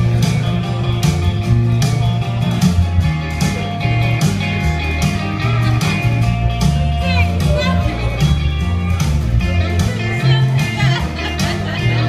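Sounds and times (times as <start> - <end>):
bass notes: 0.0 - 12.0
guitar strumming: 0.0 - 12.0.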